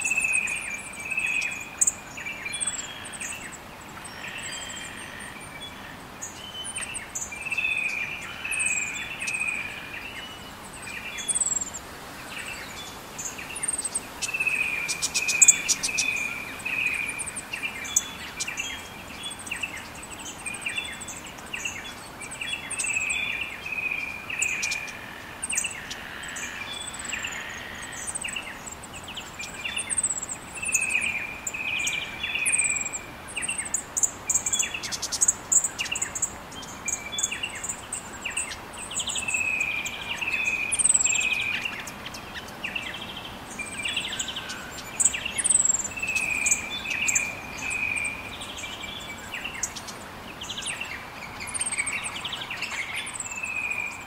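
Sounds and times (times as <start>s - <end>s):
background hiss: 0.0s - 54.0s
birds calling: 0.0s - 54.0s.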